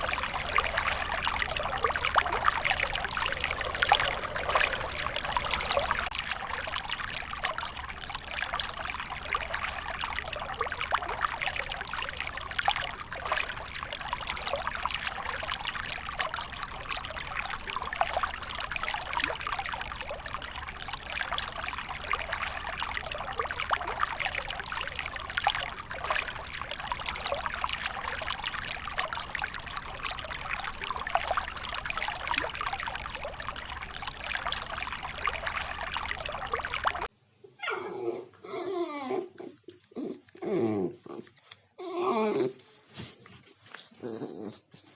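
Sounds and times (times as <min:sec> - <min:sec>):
water trickling and splashing: 0:00.0 - 0:37.1.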